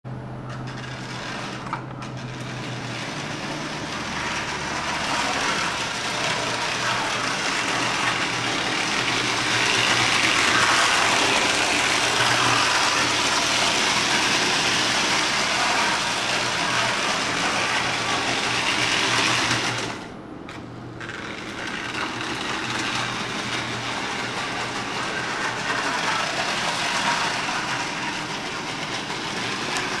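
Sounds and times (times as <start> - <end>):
toy train wheel rattle: 0.5 - 20.0, 21.0 - 30.0
toy train motor whir: 0.5 - 30.0.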